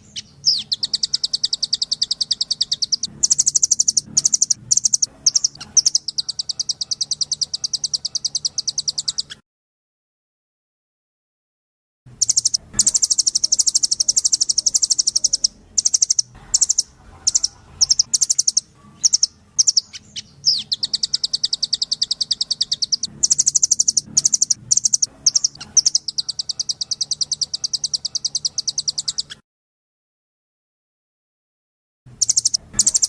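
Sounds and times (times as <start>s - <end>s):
bird calling in high trills: 0.0s - 9.4s, 12.2s - 29.4s, 32.2s - 33.0s.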